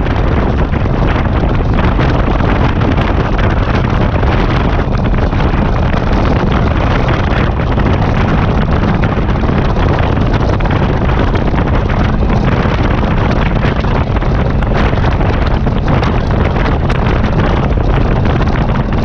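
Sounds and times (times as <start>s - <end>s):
motorcycle engine: 0.0s - 19.0s
road noise: 0.0s - 19.0s
wind buffeting microphone: 0.0s - 19.0s.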